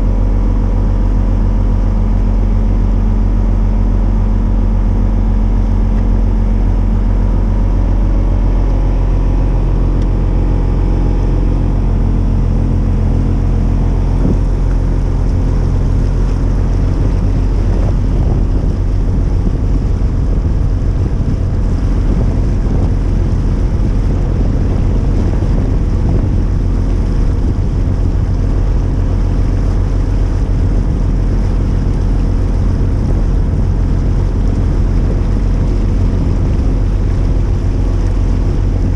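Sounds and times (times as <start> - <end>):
boat diesel engine running: 0.0 - 38.9
rushing water: 0.0 - 38.9
wind noise on microphone: 0.0 - 38.9.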